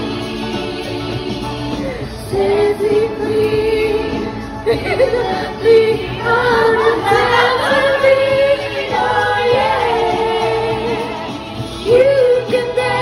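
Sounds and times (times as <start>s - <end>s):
female group singing in harmony: 0.0s - 13.0s.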